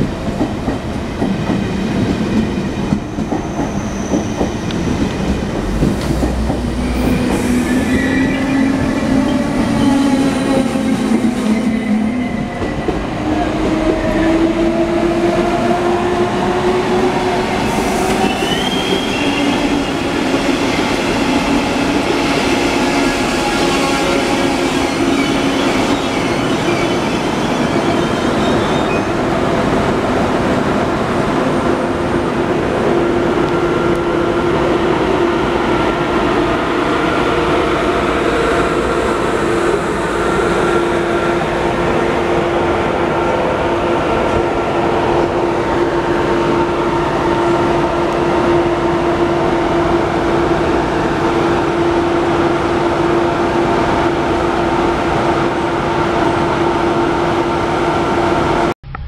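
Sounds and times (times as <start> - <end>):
train rolling on track: 0.0 - 58.7.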